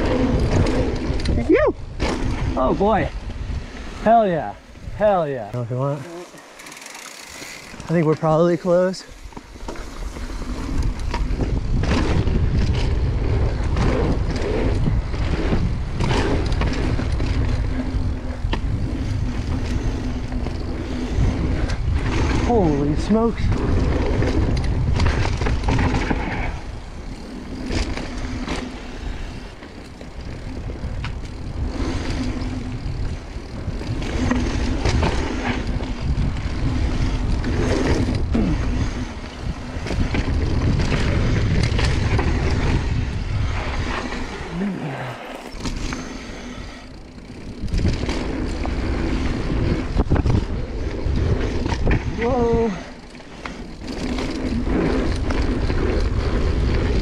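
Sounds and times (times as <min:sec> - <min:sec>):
wind rumbling on microphone: 0:00.0 - 0:06.0, 0:07.2 - 0:57.0
bike rattling over bumps: 0:00.0 - 0:57.0
bike tyres on dirt: 0:00.0 - 0:57.0.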